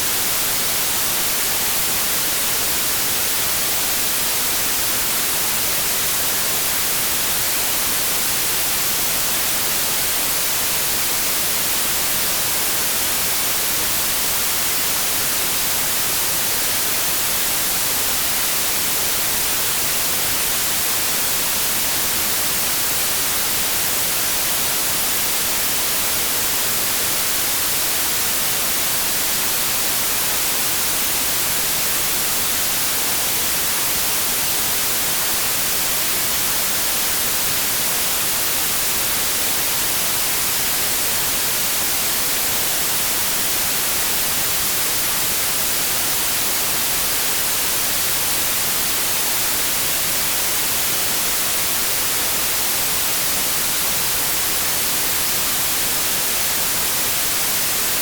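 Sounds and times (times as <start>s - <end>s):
white noise static hiss: 0.0s - 58.0s.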